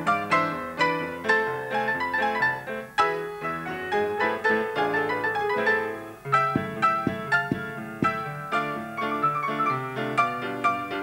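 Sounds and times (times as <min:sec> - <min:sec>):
solo piano melody and chords: 0:00.0 - 0:11.0.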